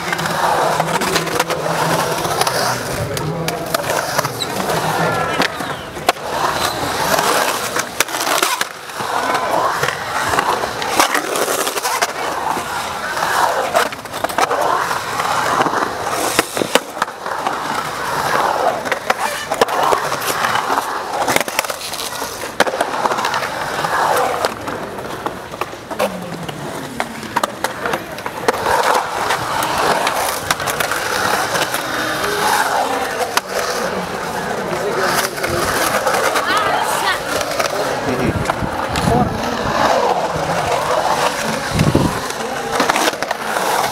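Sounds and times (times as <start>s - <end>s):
people shouting and talking: 0.0s - 43.9s
skateboard clacking on concrete: 0.0s - 43.9s
skateboard wheels rolling on concrete: 0.0s - 43.9s.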